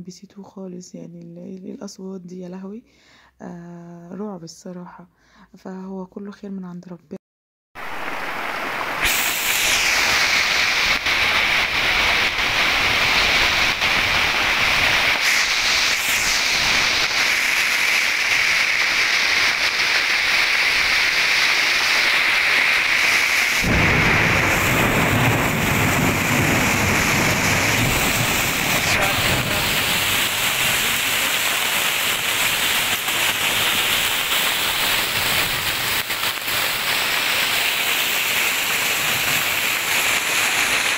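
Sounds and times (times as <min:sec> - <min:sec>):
heavy rain on street: 0:07.8 - 0:40.9.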